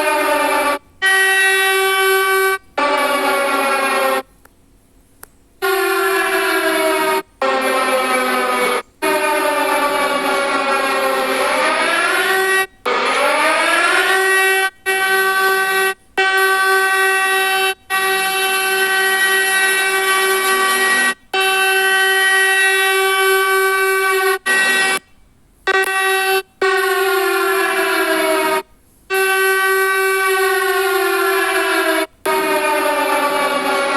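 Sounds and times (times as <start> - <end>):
wailing alarm siren: 0.0 - 4.3, 5.6 - 25.1, 25.7 - 33.9.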